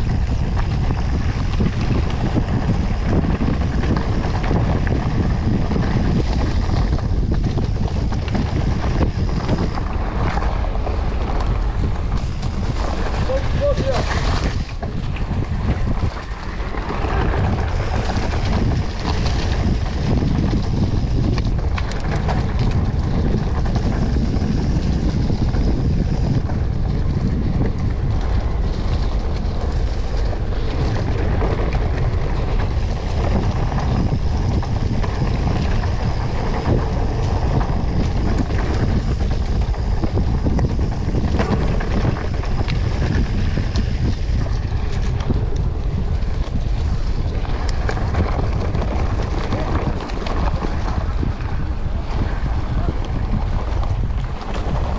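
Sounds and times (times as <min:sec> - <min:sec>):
bike knocking and rattling: 0:00.0 - 0:54.9
tyres rumbling on dirt: 0:00.0 - 0:54.9
wind buffeting microphone: 0:00.0 - 0:54.9.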